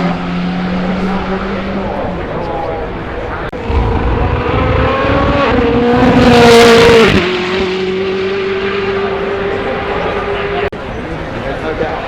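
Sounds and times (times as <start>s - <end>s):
racing car engine passing at high revs: 0.0s - 10.7s.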